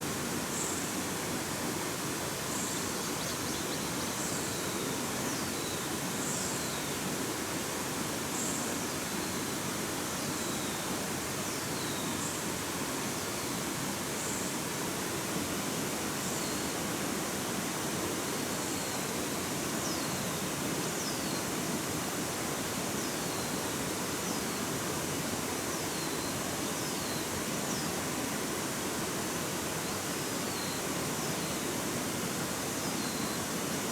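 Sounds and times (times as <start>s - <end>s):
stream rushing: 5.9s - 33.9s.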